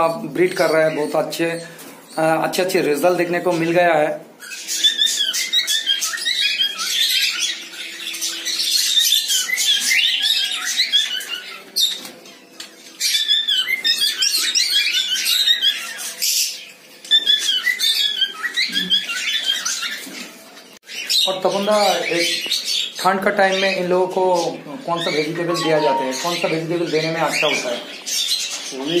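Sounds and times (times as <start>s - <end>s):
cockatiels chirping and squawking: 0.3s - 29.0s.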